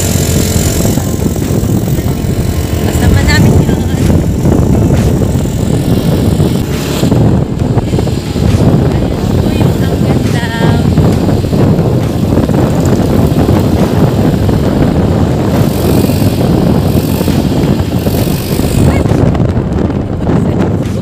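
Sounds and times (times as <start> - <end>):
motorcycle engine rumbling: 0.0 - 21.0
wind rushing on microphone: 0.0 - 21.0.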